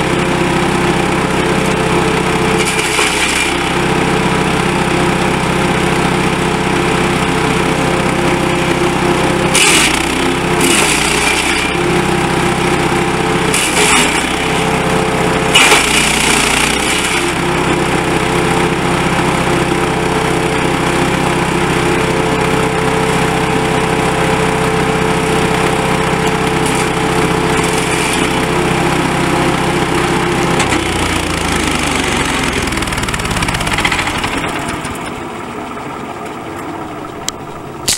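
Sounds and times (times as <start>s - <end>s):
wood chipper engine running: 0.0s - 37.9s.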